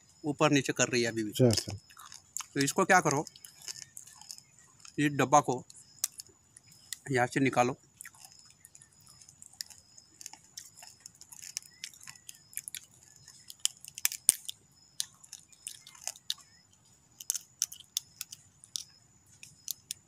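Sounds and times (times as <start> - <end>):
crab shell cracking and clicking: 1.5 - 7.1, 8.0 - 20.0.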